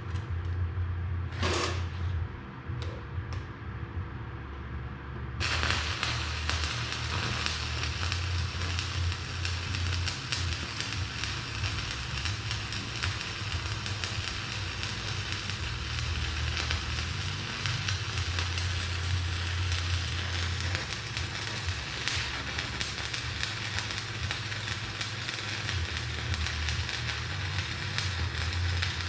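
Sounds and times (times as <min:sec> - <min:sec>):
welding arc crackling: 0:05.4 - 0:29.0.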